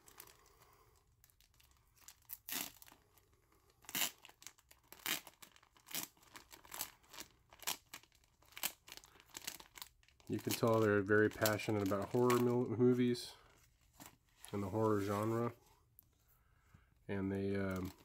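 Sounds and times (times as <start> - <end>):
plastic wrapping crinkling: 0.0 - 15.6, 17.4 - 18.0.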